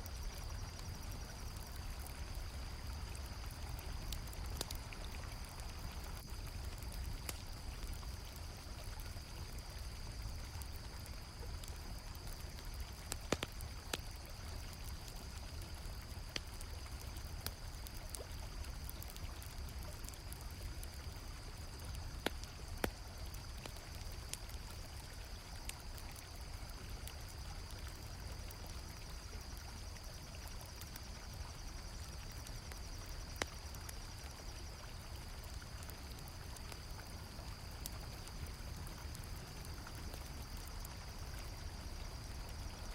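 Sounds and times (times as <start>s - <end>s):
campfire crackling: 0.0s - 42.9s
crickets chirping: 0.0s - 42.9s.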